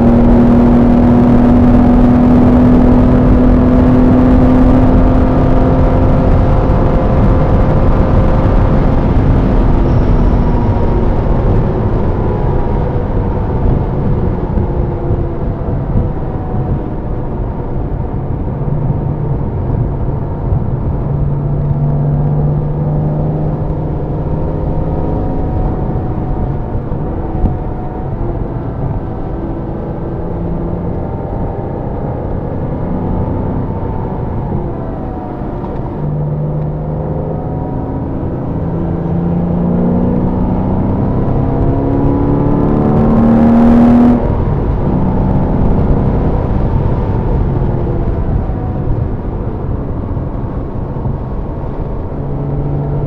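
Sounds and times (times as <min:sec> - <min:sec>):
car engine from inside: 0:00.0 - 0:53.0
road noise on wet track: 0:00.0 - 0:53.0.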